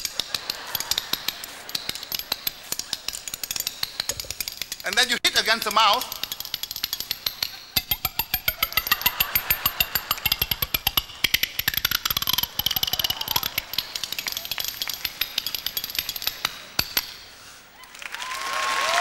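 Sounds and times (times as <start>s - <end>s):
spoons clicking in a roll: 0.0s - 17.4s.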